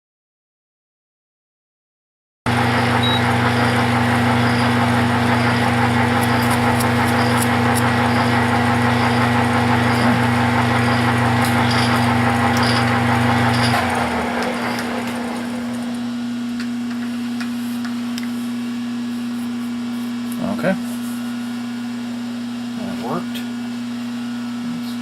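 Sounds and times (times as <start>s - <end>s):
lathe drone and hum: 2.5s - 25.0s.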